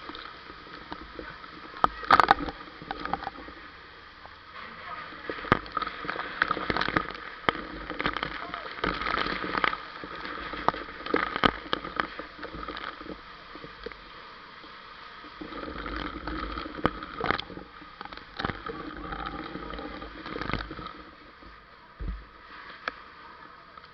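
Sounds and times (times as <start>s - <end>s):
heavy rain: 0.0s - 23.9s
running splashing water: 0.0s - 23.9s.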